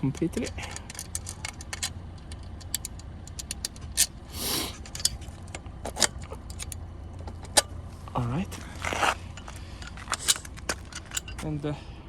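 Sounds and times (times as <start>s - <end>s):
metal clicks and rattles: 0.0s - 7.8s, 8.5s - 11.5s.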